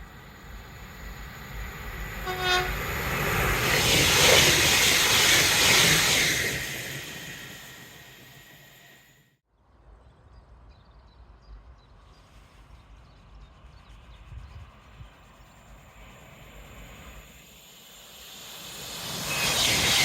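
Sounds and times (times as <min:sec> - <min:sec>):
train approaching: 0:00.0 - 0:09.4, 0:11.5 - 0:20.0.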